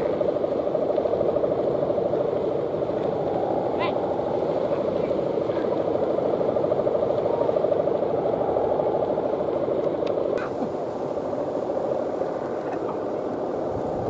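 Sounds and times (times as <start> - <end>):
kite bow humming drone: 0.0 - 14.0.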